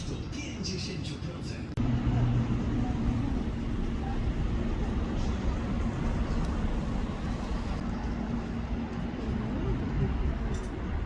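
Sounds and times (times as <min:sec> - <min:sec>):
vehicle driving rumble: 0:01.8 - 0:11.0.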